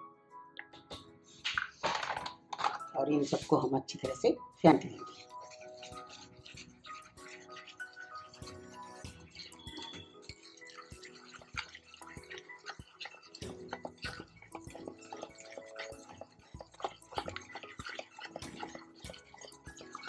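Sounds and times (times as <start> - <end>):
whisk beating batter in steel bowl: 2.6 - 20.0.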